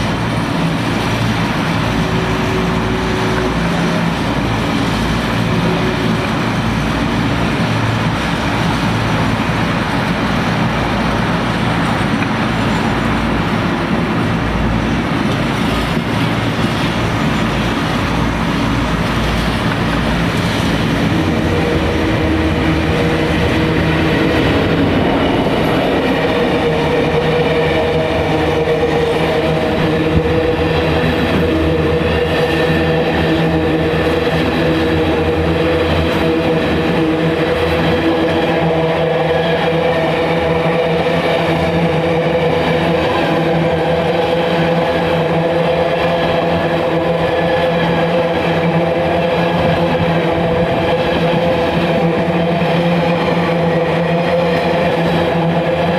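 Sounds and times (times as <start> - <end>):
diesel locomotive engine: 0.0 - 55.9
train wagons rolling over rails: 0.0 - 55.9.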